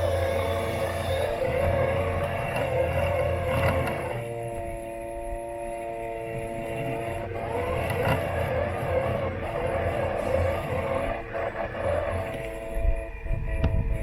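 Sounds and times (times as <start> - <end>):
chassis rumble: 0.0 - 14.0
robot lawn mower motors whining: 0.0 - 14.0.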